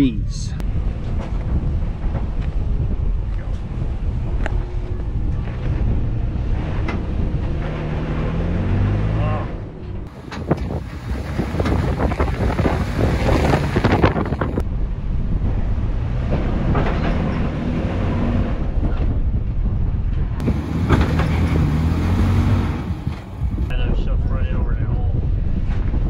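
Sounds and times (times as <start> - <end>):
wind buffeting microphone: 0.0 - 26.0
truck engine revving: 0.6 - 14.6, 15.4 - 23.7.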